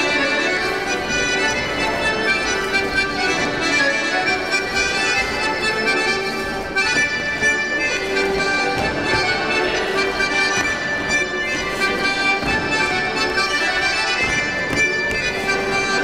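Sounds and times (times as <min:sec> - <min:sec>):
folk dance music: 0:00.0 - 0:16.0.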